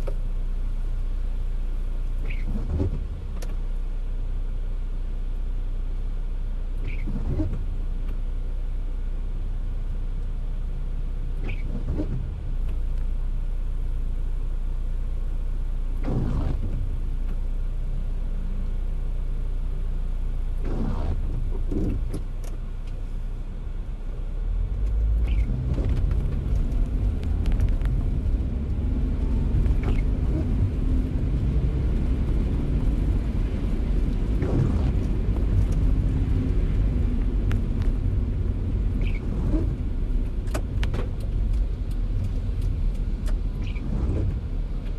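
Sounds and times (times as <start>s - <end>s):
tyres and engine on wet road: 0.0s - 44.9s.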